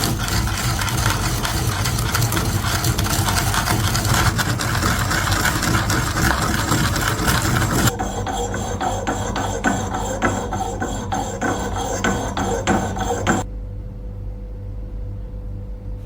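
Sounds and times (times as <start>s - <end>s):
workshop machine humming: 0.0s - 13.5s.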